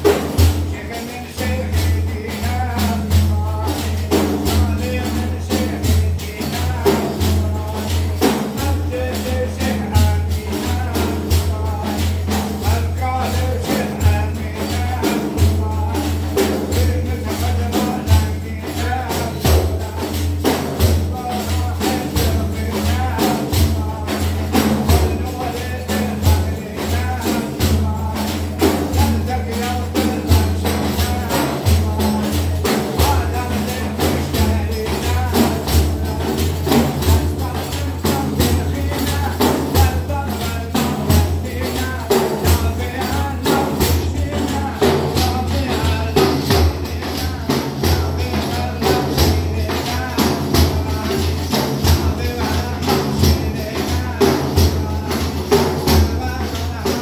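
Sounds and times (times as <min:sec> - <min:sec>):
frame drums beaten: 0:00.0 - 0:57.0
men chanting a hymn: 0:00.0 - 0:57.0.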